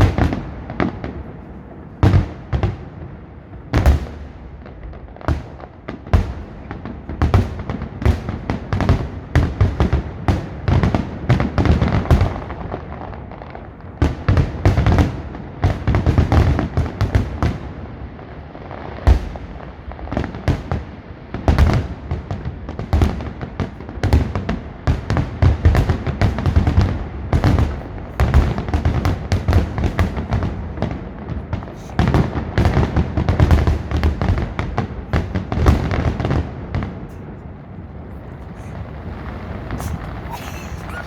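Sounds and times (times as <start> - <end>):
fireworks bursts and crackles: 0.0 - 41.0.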